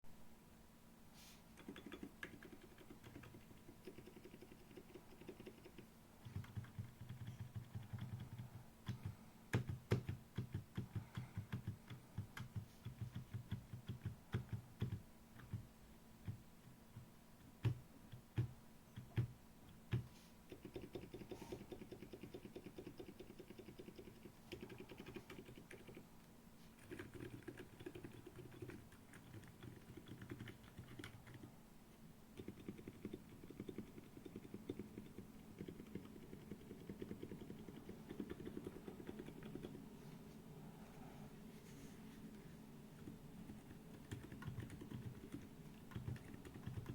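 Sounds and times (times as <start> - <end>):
mechanical keyboard typing: 1.6 - 16.4, 17.6 - 26.0, 26.8 - 31.5, 32.4 - 39.8, 43.0 - 46.9.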